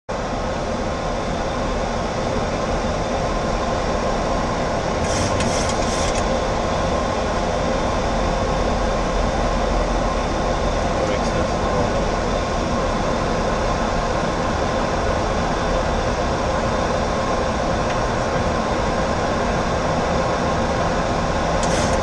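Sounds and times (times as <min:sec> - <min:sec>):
cockpit air and machinery rush: 0:01.9 - 0:22.0.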